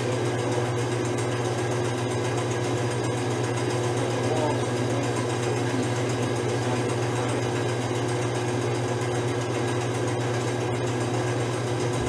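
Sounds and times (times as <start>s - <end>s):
motor-driven machine humming: 0.0s - 12.0s.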